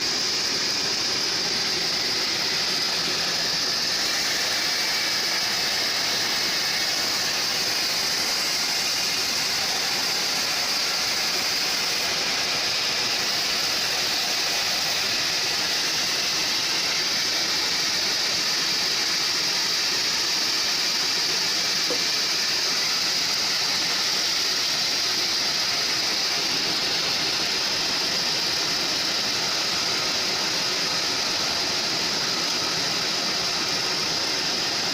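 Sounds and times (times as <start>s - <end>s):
bandsaw sawmill running: 0.0s - 34.9s.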